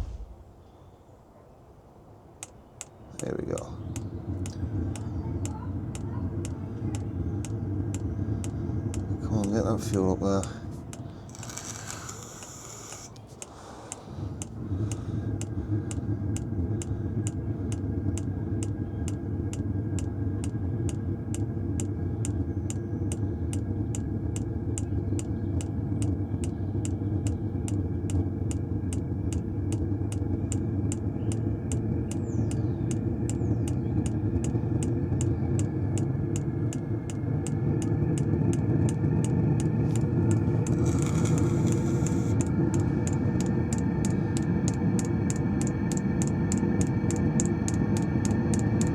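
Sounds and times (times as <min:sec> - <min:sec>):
fuel pump ticking: 0:00.0 - 0:00.5, 0:02.4 - 0:48.9
heater blower humming: 0:00.0 - 0:00.6, 0:03.2 - 0:48.9.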